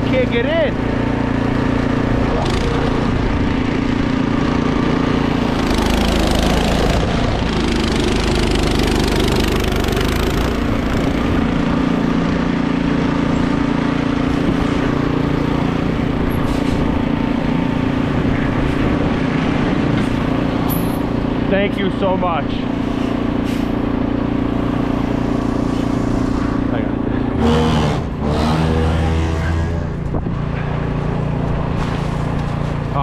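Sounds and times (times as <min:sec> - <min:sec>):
road or fan noise: 0:00.0 - 0:33.0
truck engine running: 0:00.0 - 0:33.0.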